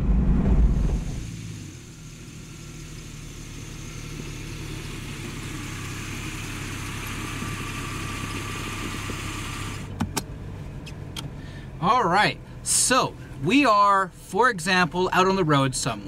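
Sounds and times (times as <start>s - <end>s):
car engine driving slowly: 0.0s - 16.0s.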